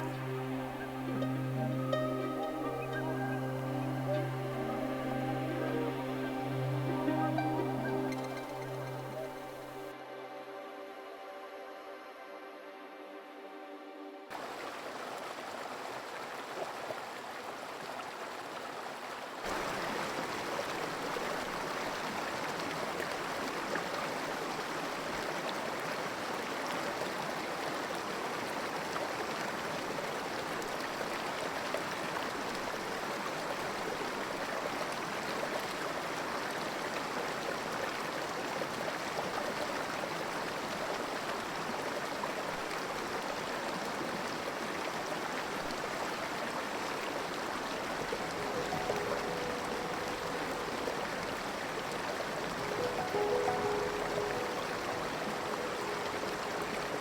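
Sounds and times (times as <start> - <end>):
creek water flowing: 0.0 - 10.3, 14.3 - 57.0.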